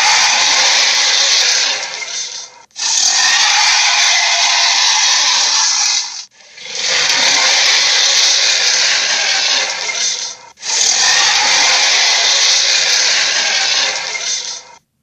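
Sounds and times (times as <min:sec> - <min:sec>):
giant ape roaring: 0:00.0 - 0:14.8.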